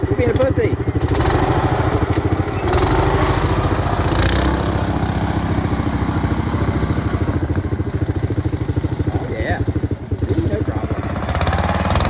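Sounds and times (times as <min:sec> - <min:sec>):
small gasoline engine running: 0:00.0 - 0:12.0.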